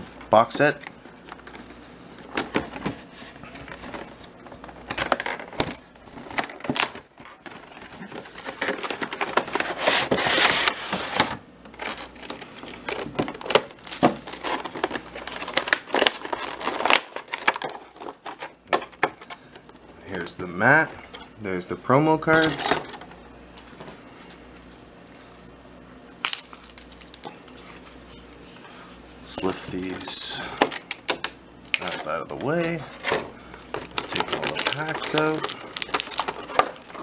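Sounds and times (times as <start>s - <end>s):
plastic wrapping crinkling: 0.6s - 21.2s, 22.3s - 30.1s, 31.7s - 37.0s.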